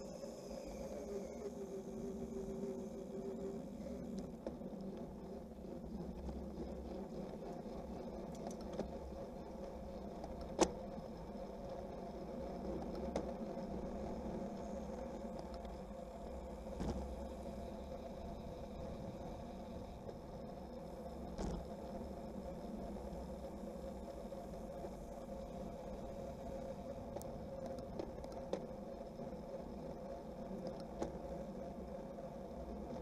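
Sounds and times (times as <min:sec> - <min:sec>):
bicycle rolling on asphalt: 0:00.0 - 0:33.0
wind: 0:00.0 - 0:33.0.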